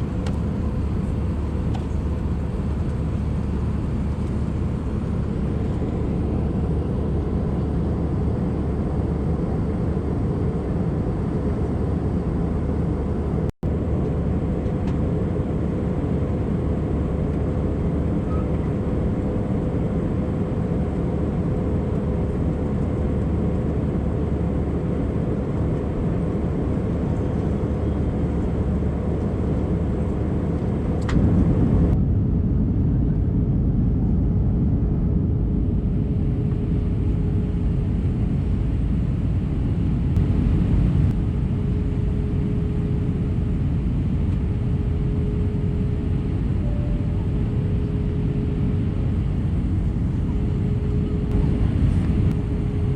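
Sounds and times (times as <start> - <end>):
aircraft cabin engine rush: 0.0 - 52.9
faint hum: 0.0 - 52.9.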